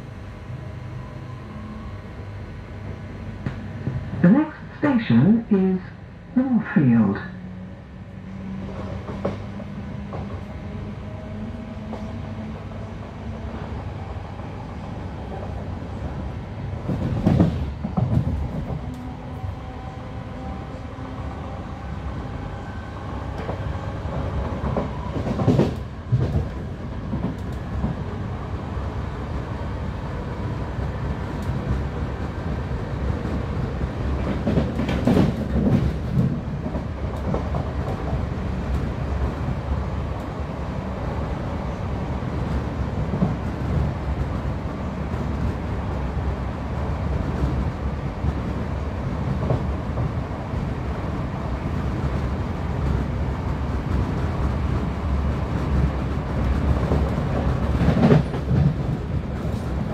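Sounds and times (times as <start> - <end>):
train wheels rumbling on rails: 7.4 - 59.9.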